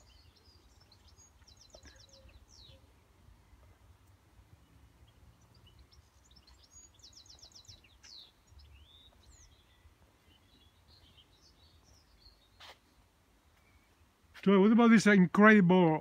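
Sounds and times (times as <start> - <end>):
birdsong trills and chirps: 0.0 - 14.6.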